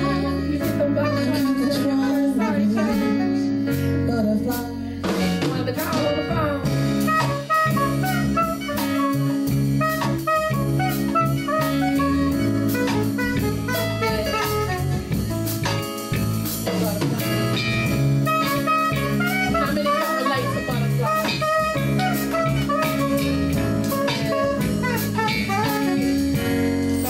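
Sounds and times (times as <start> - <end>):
live jazz band playing: 0.0 - 27.0.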